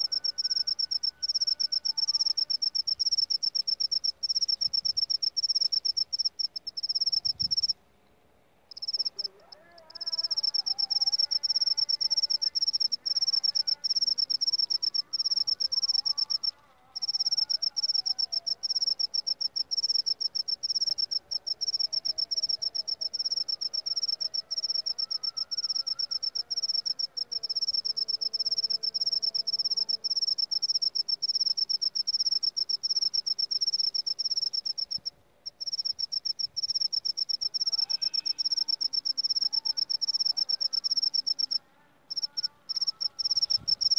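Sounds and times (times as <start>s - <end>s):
cricket pulsed trill: 0.0s - 7.8s, 8.7s - 43.9s.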